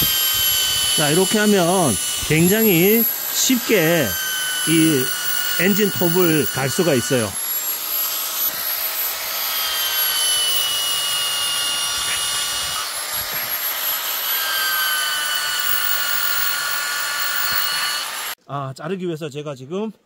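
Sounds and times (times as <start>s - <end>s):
electric drill whining: 0.0s - 18.4s
file grinding chainsaw chain: 0.0s - 18.4s.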